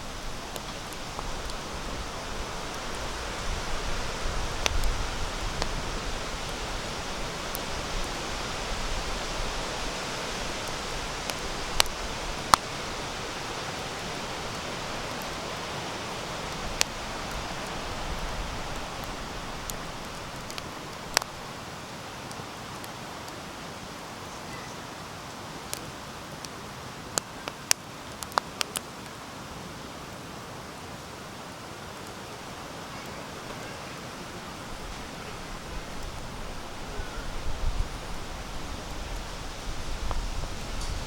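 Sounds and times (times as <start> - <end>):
campfire hissing: 0.0 - 41.0.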